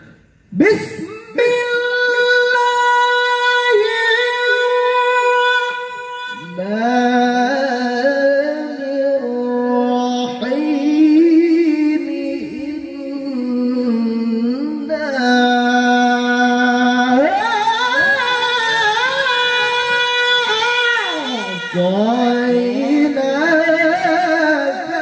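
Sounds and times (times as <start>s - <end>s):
man chanting through microphone: 0.0s - 25.0s.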